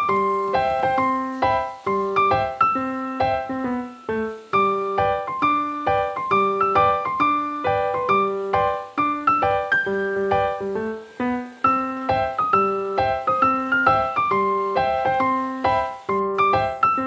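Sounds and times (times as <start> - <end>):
piano notes and chords: 0.0 - 17.0.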